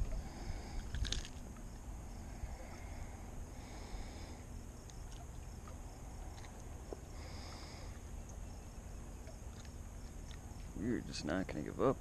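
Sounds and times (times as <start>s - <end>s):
faint insect trills: 0.0s - 12.0s.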